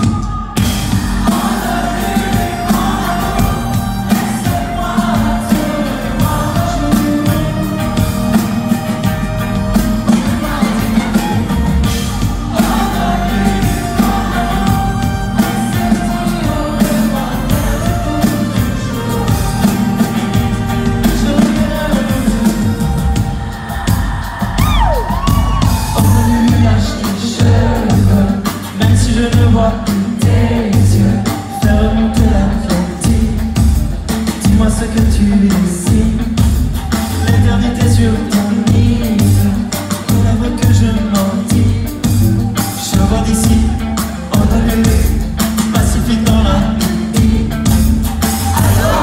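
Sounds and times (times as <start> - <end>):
live band playing: 0.0 - 49.0
person singing into microphone: 0.0 - 49.0.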